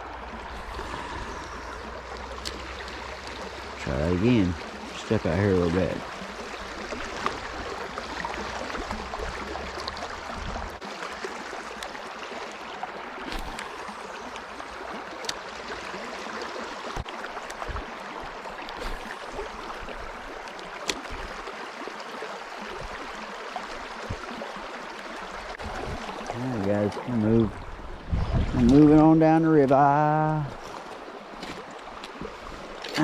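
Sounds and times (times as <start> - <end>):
flowing river water rushing: 0.0 - 33.0.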